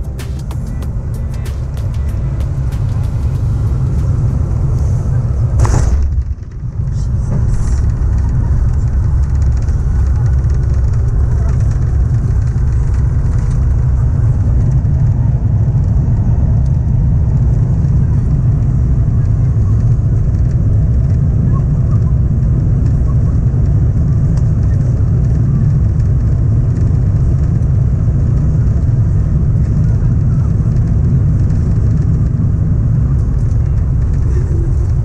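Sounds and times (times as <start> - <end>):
engine and airflow rumble: 0.0 - 35.0.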